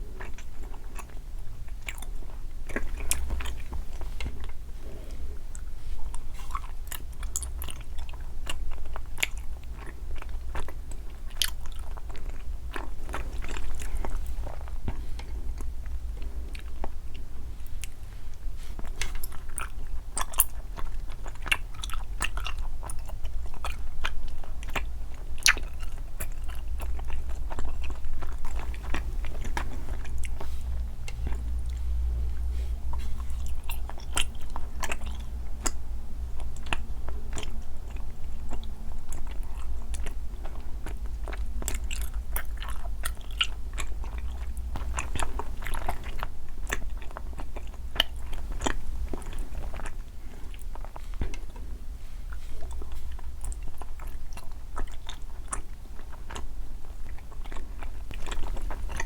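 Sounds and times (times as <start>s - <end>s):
low steady hum: 0.0s - 59.0s
person chewing sweets: 0.0s - 59.0s.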